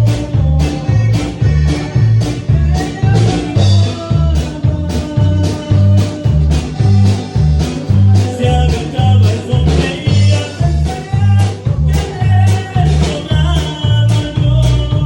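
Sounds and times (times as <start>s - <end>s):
band music with bass: 0.0s - 15.0s.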